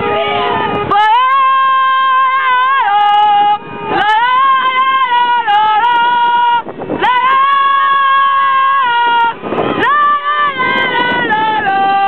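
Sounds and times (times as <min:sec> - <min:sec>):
horn blasts: 0:00.0 - 0:12.0.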